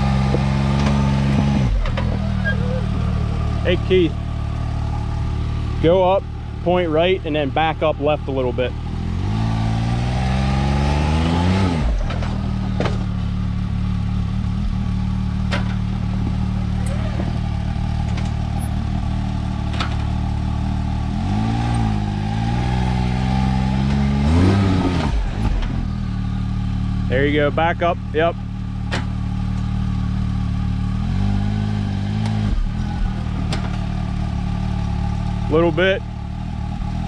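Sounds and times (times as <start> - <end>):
engine revving under load: 0.0 - 37.0.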